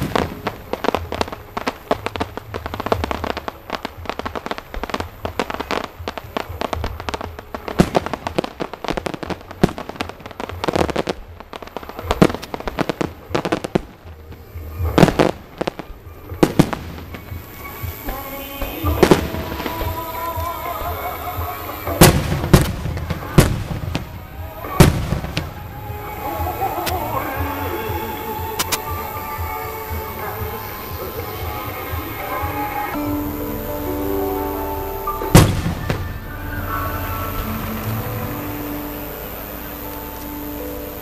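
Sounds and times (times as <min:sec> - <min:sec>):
firework crackling: 0:00.0 - 0:41.0
firework shells bursting: 0:00.0 - 0:41.0.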